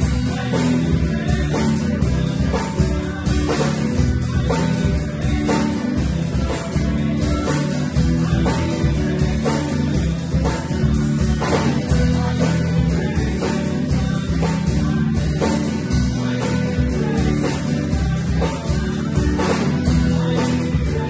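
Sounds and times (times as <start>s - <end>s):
bass guitar: 0.0s - 21.0s
drum kit: 0.0s - 21.0s
electric guitar: 0.0s - 21.0s.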